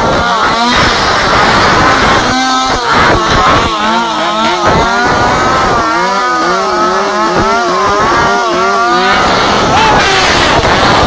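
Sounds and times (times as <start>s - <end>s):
two-stroke engines revving: 0.0s - 11.0s.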